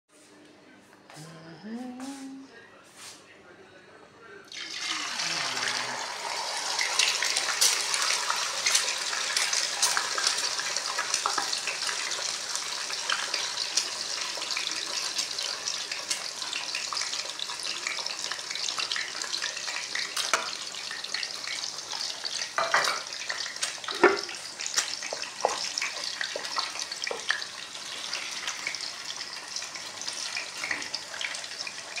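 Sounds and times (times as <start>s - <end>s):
eggs sizzling in oil: 4.5s - 32.0s.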